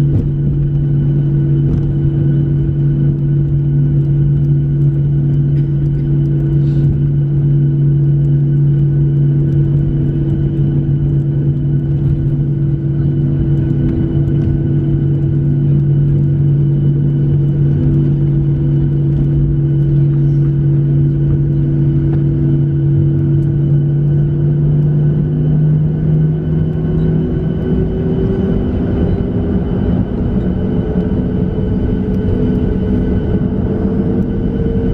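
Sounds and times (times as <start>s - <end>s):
airplane cabin hum: 0.0s - 34.9s
faint pulsing tone: 0.0s - 34.9s.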